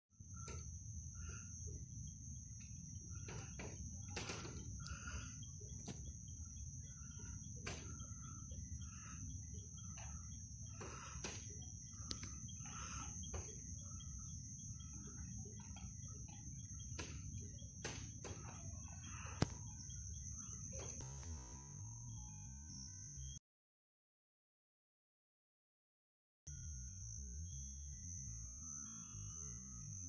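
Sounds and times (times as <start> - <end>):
insect trill: 0.1 - 23.4, 26.5 - 30.0
faint chirps: 0.2 - 23.4, 26.5 - 30.0.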